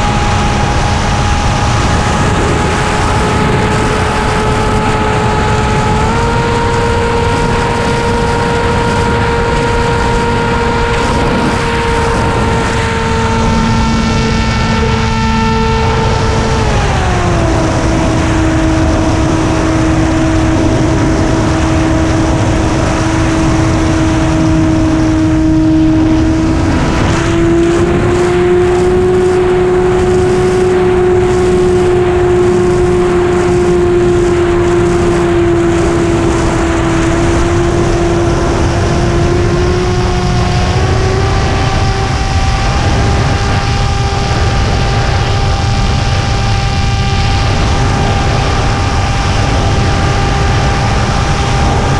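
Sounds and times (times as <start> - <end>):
model airplane motor humming: 0.0 - 51.9
wind rushing over microphone: 0.0 - 51.9.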